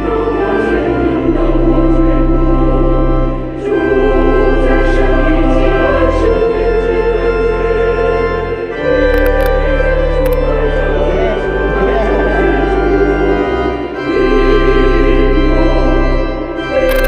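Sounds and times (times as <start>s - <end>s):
choir singing a hymn: 0.0s - 17.0s
organ-like chords: 0.0s - 17.0s.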